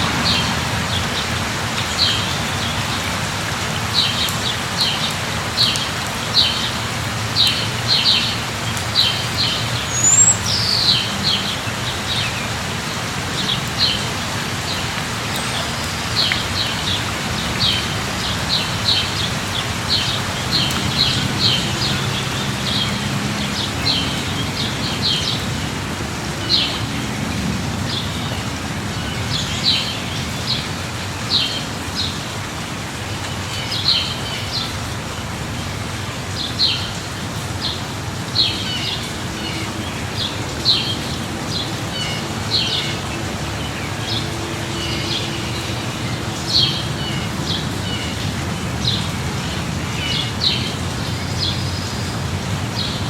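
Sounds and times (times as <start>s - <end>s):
light rain: 0.0s - 53.0s.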